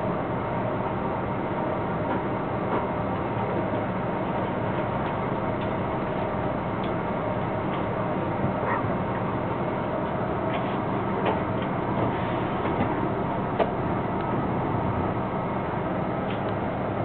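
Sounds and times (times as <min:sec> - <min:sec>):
train rumble and hum: 0:00.0 - 0:17.0.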